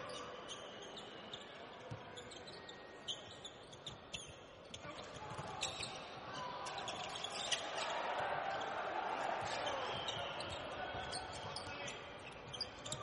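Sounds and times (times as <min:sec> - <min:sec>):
sneakers squeaking: 0:00.0 - 0:08.0, 0:09.3 - 0:13.0
arena crowd noise: 0:00.0 - 0:13.0.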